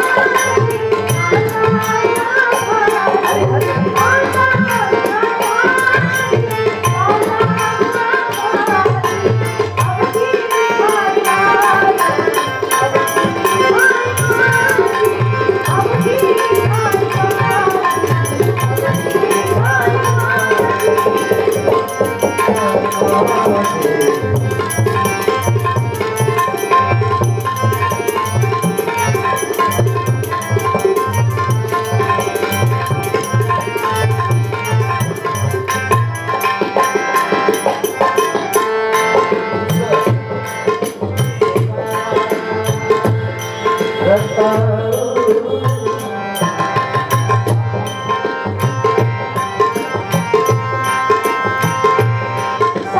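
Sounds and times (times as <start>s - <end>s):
hand drum rhythm: 0.0s - 52.9s.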